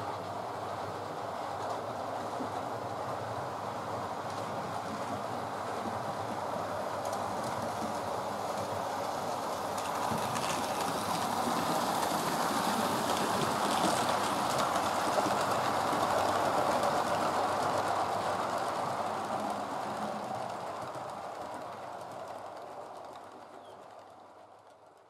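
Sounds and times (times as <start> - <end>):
model train rumbling on track: 0.0 - 25.0.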